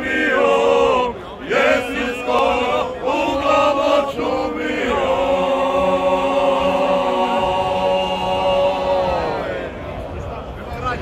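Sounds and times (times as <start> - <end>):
men singing unaccompanied: 0.0 - 9.7.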